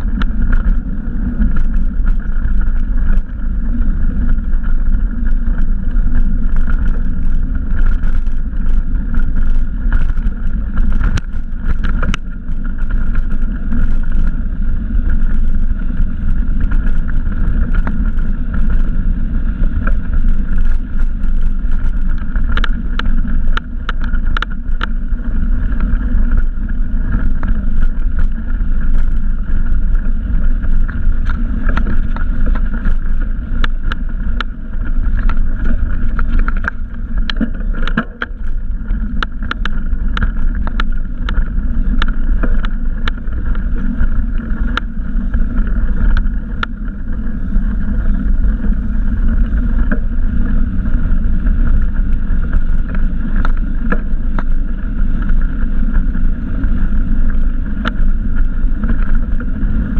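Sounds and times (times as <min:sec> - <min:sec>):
bike rattling clicks and knocks: 0:00.0 - 0:59.9
bike tyres on dirt: 0:00.0 - 0:59.9
wind rumble: 0:00.0 - 0:59.9.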